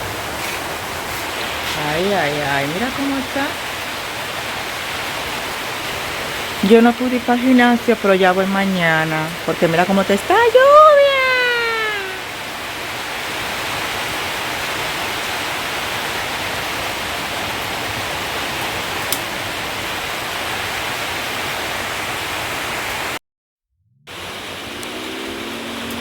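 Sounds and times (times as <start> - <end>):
heavy rain falling: 0.0 - 23.2, 24.1 - 26.0.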